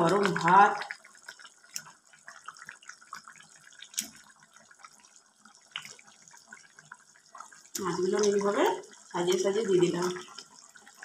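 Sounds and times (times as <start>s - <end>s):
gravy bubbling and popping: 0.0s - 11.0s.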